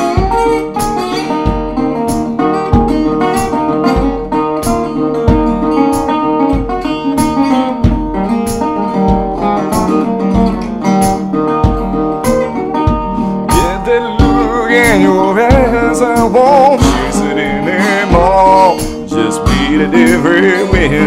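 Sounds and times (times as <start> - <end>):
resonator guitar playing: 0.0 - 21.0.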